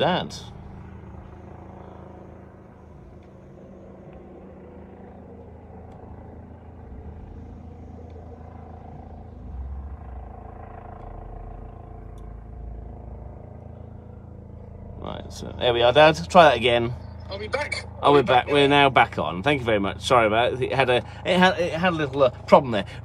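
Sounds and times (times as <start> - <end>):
engine-like rumble and hum: 0.0 - 23.0.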